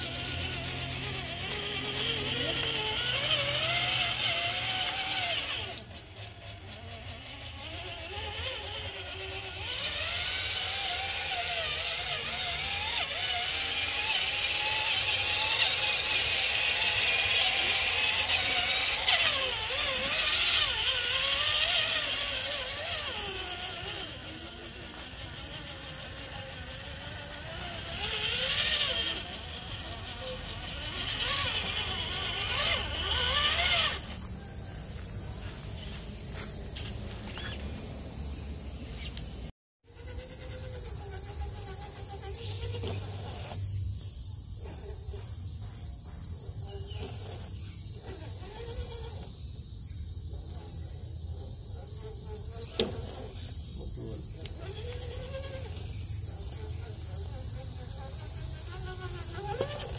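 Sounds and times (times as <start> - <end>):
toy truck motors whining: 0.0 - 59.9.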